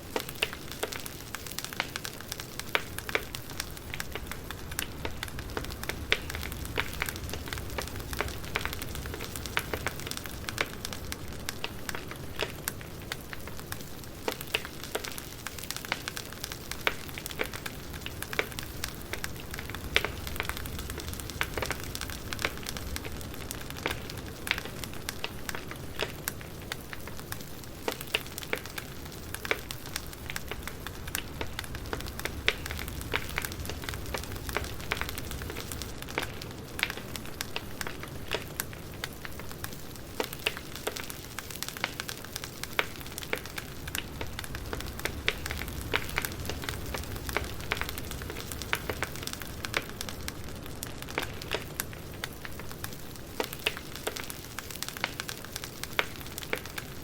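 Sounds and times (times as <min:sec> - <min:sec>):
soft steady hiss: 0:00.0 - 0:57.0
wood fire crackling and popping: 0:00.0 - 0:57.0.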